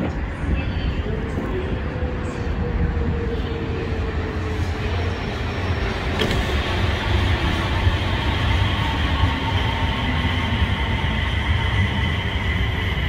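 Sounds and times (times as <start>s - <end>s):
train low rumble: 0.0s - 13.0s
train whine of held tones: 2.4s - 13.0s.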